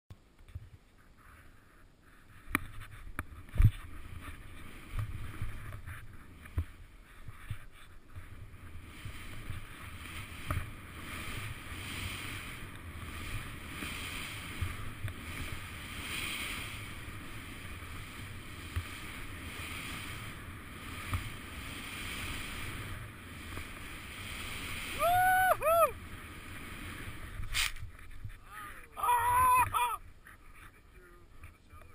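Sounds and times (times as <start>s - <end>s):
skis hissing through snow: 1.1s - 28.8s
wind on microphone: 2.3s - 30.1s.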